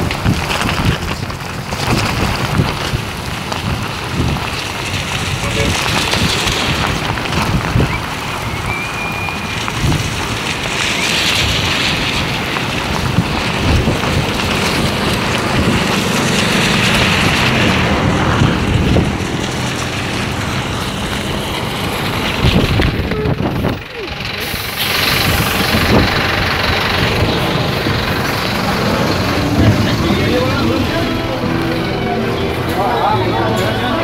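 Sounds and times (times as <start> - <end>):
wind buffeting microphone: 0.0 - 33.0
heavy rain: 0.0 - 34.0
traffic driving through water: 0.0 - 34.0.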